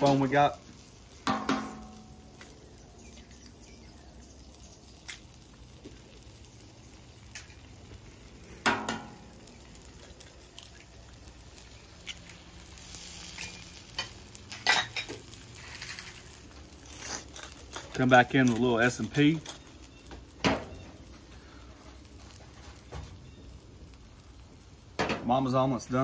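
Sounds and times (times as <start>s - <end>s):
eggs sizzling on a griddle: 0.0s - 26.0s.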